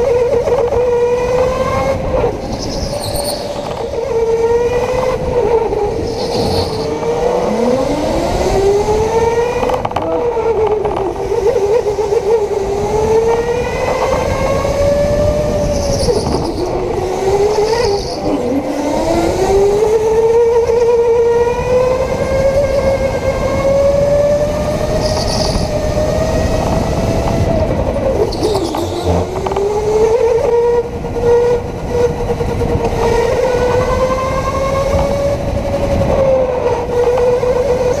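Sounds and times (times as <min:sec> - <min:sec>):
electric go-kart motor whining: 0:00.0 - 0:38.0.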